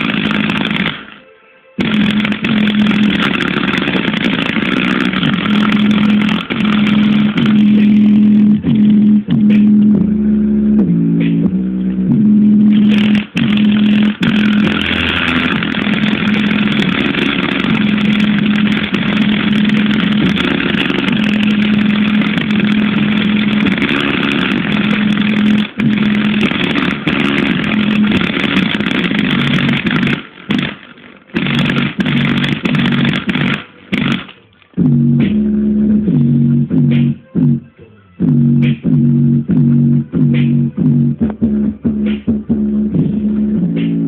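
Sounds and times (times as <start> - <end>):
distorted bass-heavy music from speaker: 0.0 - 44.0.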